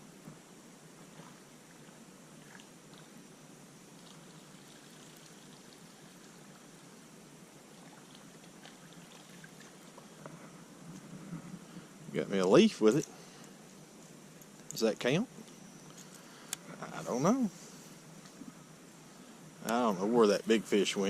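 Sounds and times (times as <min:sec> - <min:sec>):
creek water trickling: 0:00.8 - 0:20.6.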